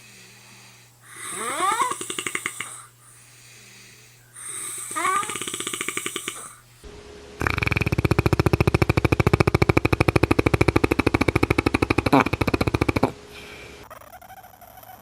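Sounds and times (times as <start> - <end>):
person snoring: 0.0 - 14.1.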